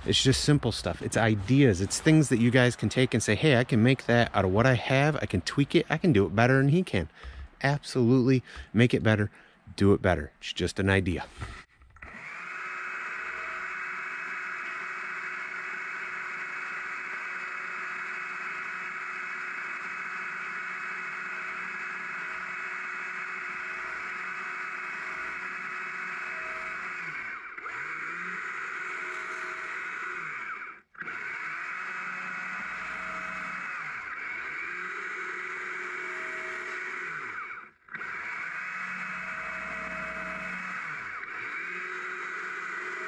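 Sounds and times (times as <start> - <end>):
chainsaw cutting log: 0.0 - 7.6, 11.3 - 43.0.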